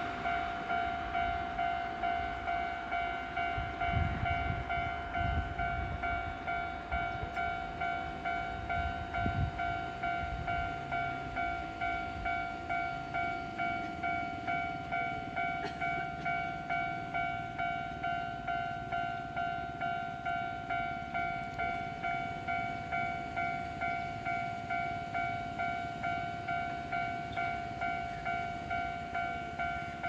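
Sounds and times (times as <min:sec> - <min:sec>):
level crossing warning bell: 0:00.0 - 0:30.0
train rumbling past: 0:00.0 - 0:30.0.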